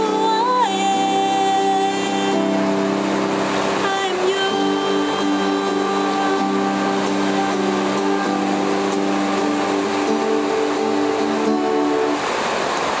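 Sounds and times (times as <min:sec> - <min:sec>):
held music chords: 0:00.0 - 0:12.4
heavy rain pouring: 0:00.0 - 0:13.0.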